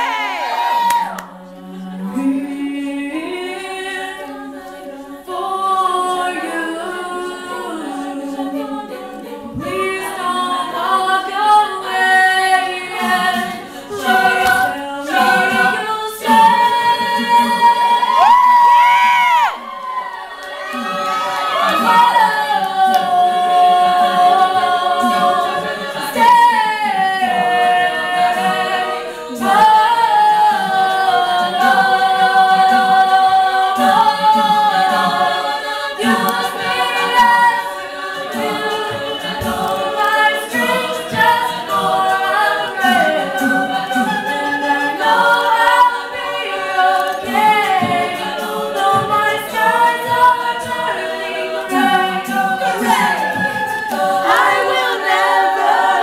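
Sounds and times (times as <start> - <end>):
women singing a cappella: 0.0 - 56.0.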